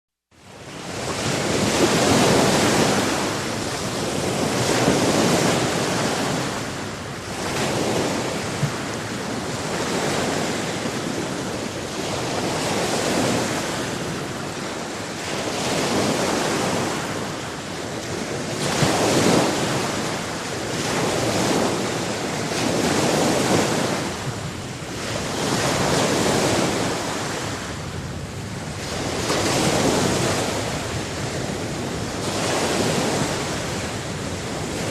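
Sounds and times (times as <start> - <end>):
waves breaking: 0.4 - 34.9.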